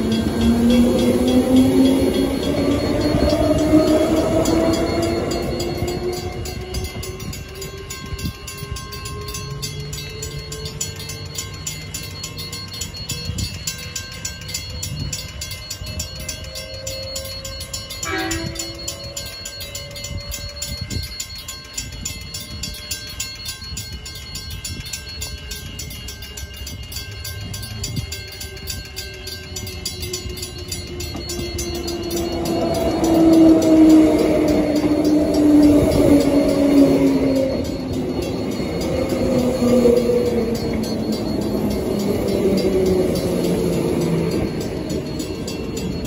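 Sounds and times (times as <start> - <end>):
electric train motors whining: 0.0 - 46.0
second train slowing whine: 0.0 - 46.0.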